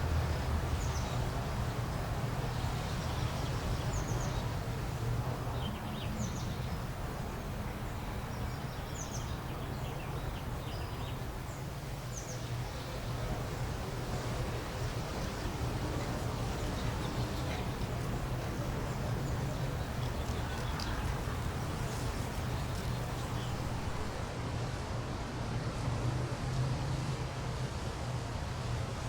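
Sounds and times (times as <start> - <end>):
low outdoor rumble: 0.0 - 29.0
birds chirping: 0.2 - 24.3.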